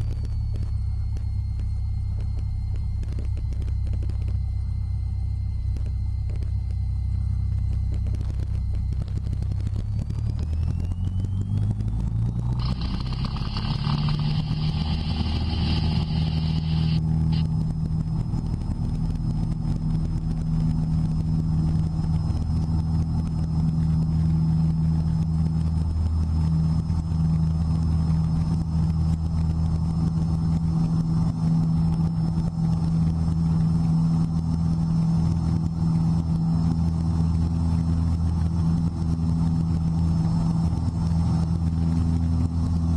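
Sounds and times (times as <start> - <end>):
high-pitched whine: 0.0 - 42.9
piston engine and propeller drone: 0.0 - 42.9.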